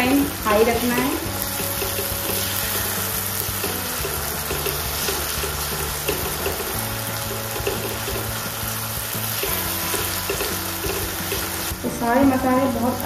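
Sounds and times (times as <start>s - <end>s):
vegetables sizzling in a wok: 0.0s - 13.0s
spatula stirring in a wok: 0.1s - 11.9s.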